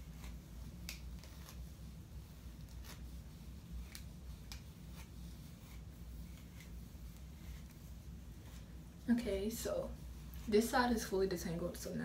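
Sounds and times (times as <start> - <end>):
comb strokes through hair: 0.0 - 12.0
low room hum: 0.0 - 12.0.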